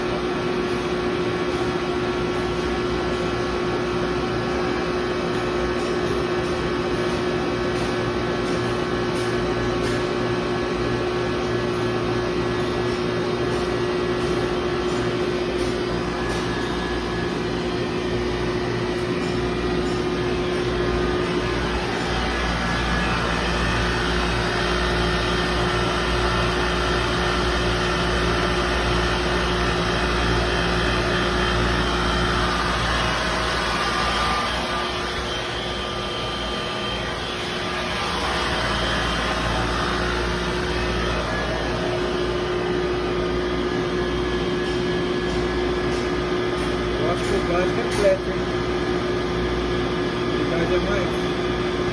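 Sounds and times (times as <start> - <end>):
water chiller humming: 0.0 - 51.9.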